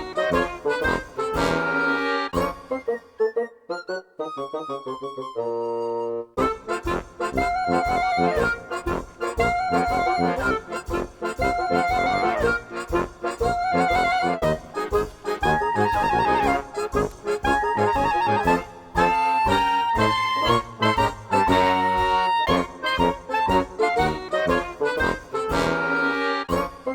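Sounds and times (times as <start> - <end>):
background music with steady beat: 0.0 - 3.2, 6.4 - 26.9.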